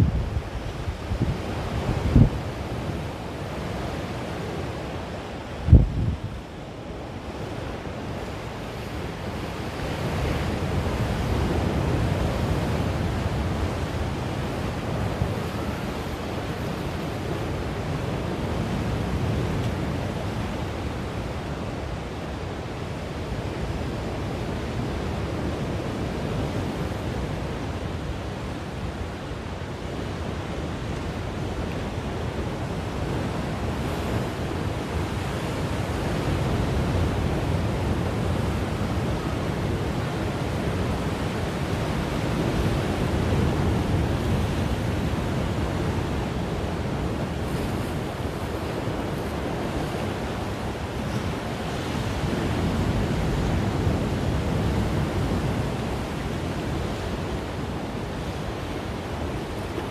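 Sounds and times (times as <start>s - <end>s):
surf crashing on rocky shore: 0.0s - 59.9s.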